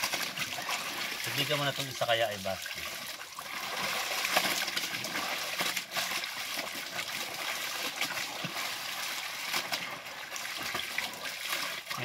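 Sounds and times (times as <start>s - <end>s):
water splashing and dripping: 0.0s - 12.0s
wrung water pouring into buckets: 0.0s - 12.0s.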